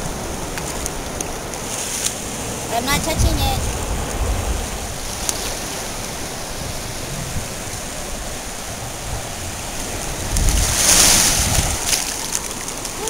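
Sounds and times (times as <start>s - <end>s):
surf washing over sand: 0.0s - 13.0s.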